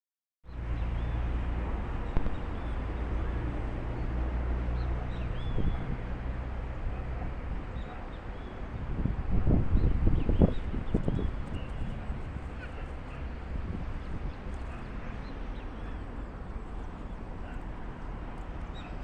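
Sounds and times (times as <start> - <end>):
low outdoor rumble: 0.5 - 19.0.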